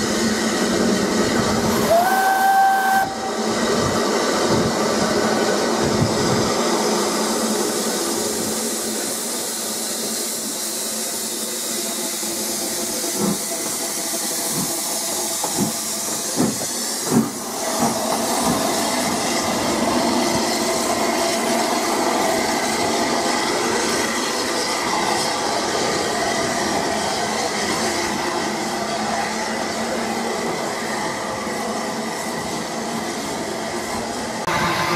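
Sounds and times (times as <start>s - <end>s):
hiss of steam: 0.0s - 34.9s
steam locomotive moving slowly: 0.0s - 34.9s.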